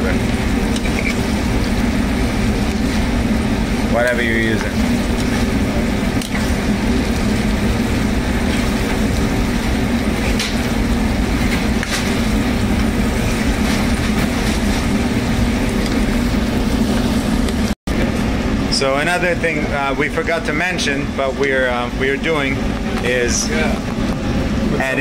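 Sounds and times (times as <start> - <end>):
kitchen machinery humming: 0.0 - 25.0.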